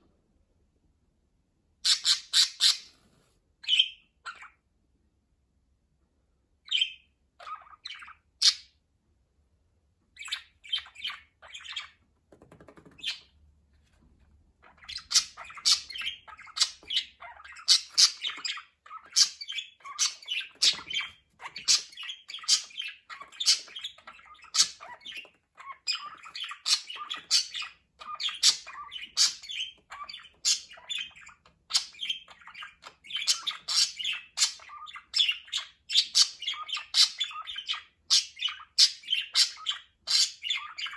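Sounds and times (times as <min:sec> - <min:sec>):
budgerigars chirping and squawking: 0:01.8 - 0:04.6, 0:06.7 - 0:08.8, 0:10.2 - 0:12.0, 0:12.7 - 0:13.4, 0:14.6 - 0:40.9.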